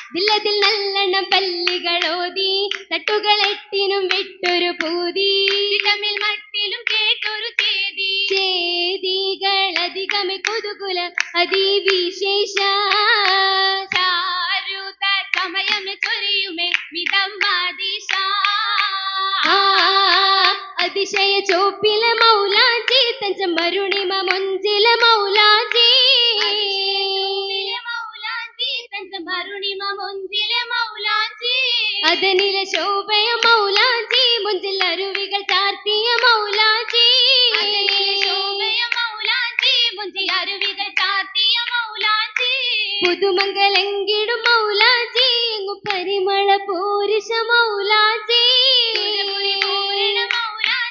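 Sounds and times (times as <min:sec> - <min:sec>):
rhythmic hand-claps: 0:00.0 - 0:28.9, 0:30.4 - 0:46.2, 0:47.2 - 0:50.9
girls singing in chorus: 0:00.0 - 0:50.9.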